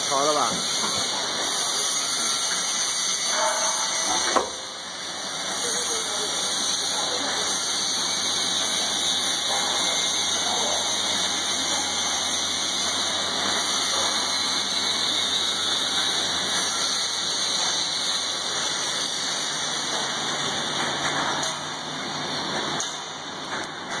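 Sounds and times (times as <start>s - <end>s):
welding machine hissing: 0.0s - 23.8s.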